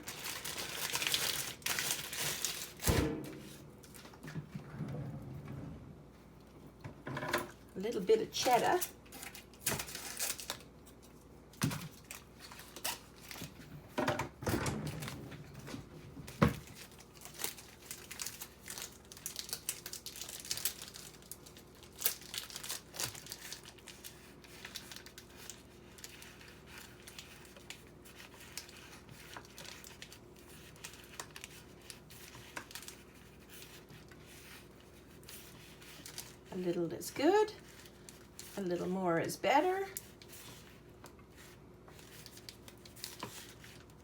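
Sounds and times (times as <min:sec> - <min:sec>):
plastic wrapping crinkling: 0:00.0 - 0:04.2, 0:08.1 - 0:13.6, 0:16.3 - 0:36.7, 0:37.3 - 0:38.7, 0:39.6 - 0:44.0.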